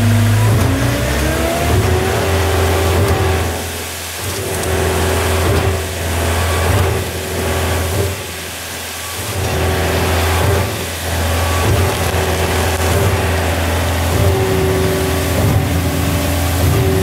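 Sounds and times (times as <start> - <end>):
pump truck engine humming: 0.0 - 17.0.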